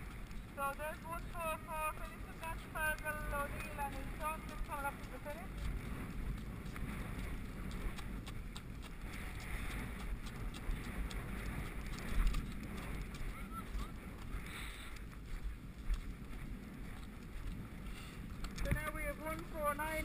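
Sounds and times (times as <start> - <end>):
horse hoofbeats on grass and gravel: 0.0 - 20.0
wind rumble on microphone: 0.0 - 20.0.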